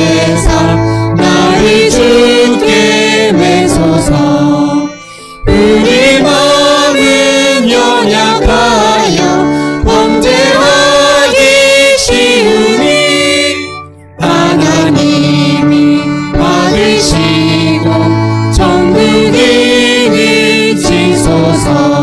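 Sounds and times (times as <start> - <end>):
instrumental accompaniment: 0.0 - 22.0
voices singing a hymn: 0.0 - 22.0.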